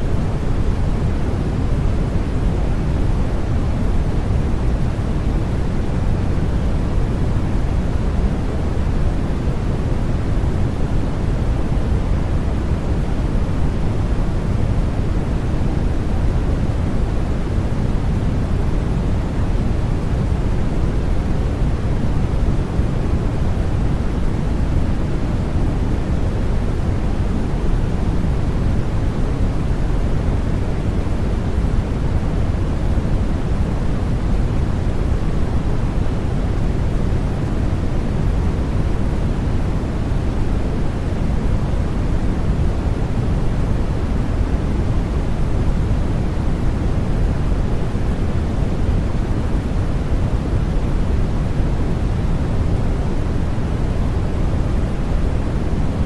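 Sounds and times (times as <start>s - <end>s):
steady deep white noise hiss: 0.0s - 56.0s.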